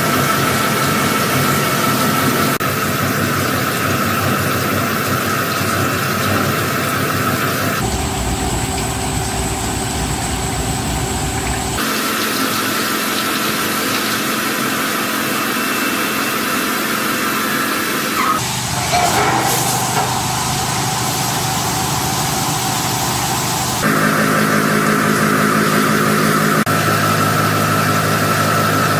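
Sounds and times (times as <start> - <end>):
machinery humming with steady tones: 0.0 - 28.9.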